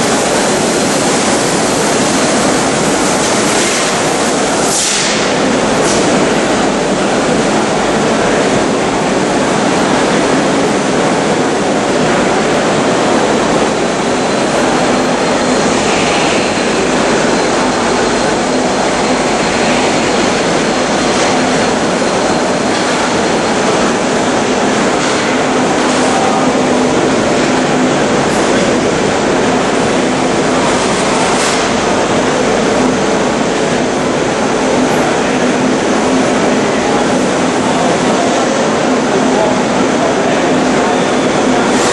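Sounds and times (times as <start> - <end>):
finishing machine running: 0.0 - 41.9.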